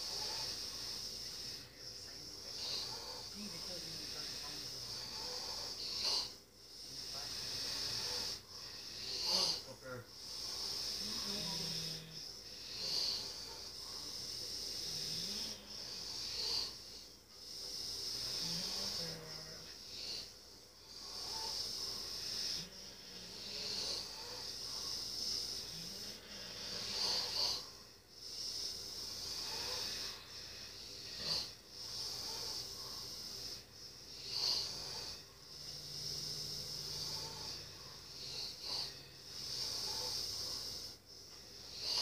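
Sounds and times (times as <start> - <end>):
person snoring: 0.0 - 42.0
steady high hiss: 0.0 - 42.0.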